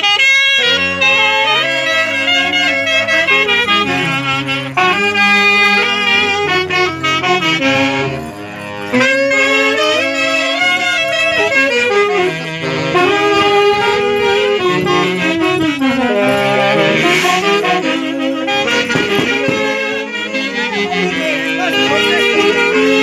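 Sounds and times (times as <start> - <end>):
band of saxophones playing dance music: 0.0 - 23.0.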